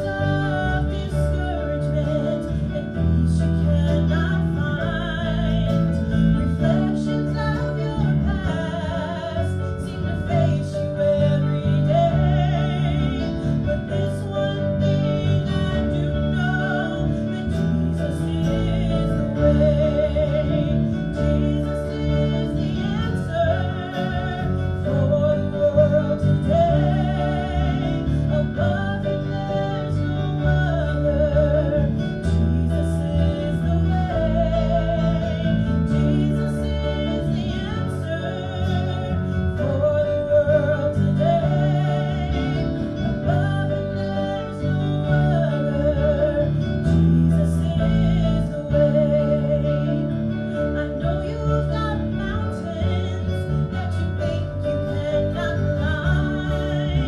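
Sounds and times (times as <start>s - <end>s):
acoustic guitar: 0.0s - 57.0s
low accompaniment: 0.0s - 57.0s
person singing with vibrato: 0.0s - 57.0s.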